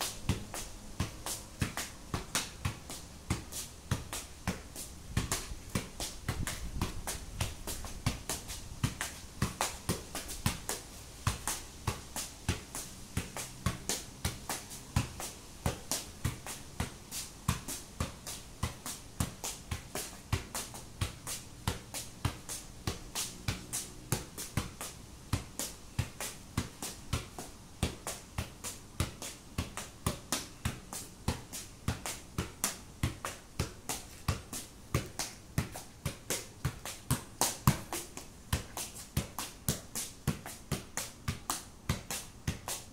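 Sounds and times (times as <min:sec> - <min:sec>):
football taps on foot and thigh: 0:00.1 - 0:42.9.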